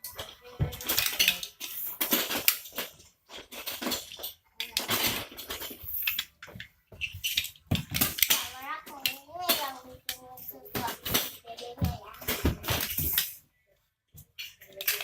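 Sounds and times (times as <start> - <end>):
plastic bricks clattering: 0.0 - 13.4, 14.4 - 15.0.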